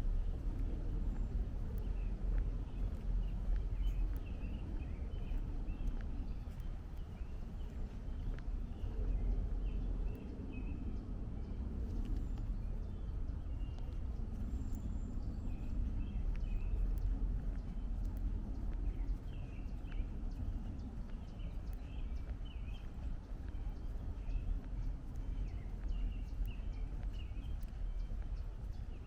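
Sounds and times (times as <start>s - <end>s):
footsteps on a trail: 0.0s - 10.6s, 11.7s - 29.0s
distant traffic rumble: 0.0s - 29.0s
small songbirds chirping: 0.0s - 29.0s.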